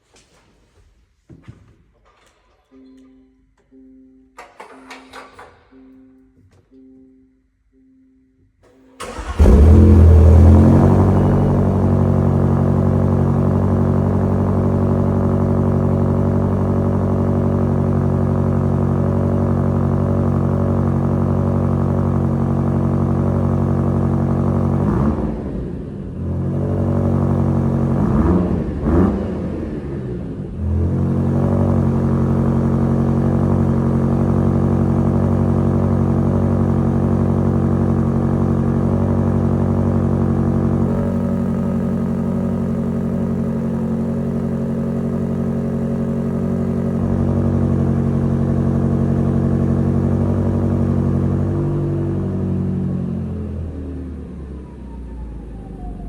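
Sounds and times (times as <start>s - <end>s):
engine throttle blips: 8.7s - 55.1s
car engine idling: 9.0s - 55.0s.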